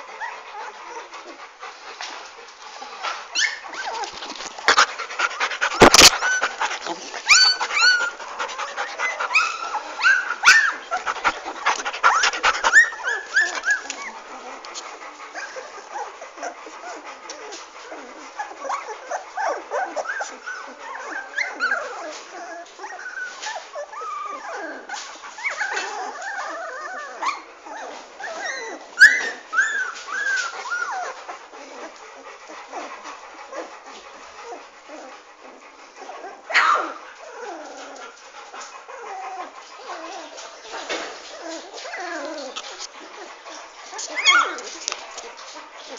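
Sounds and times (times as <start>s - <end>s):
puppies whimpering and yipping: 0.0s - 45.9s.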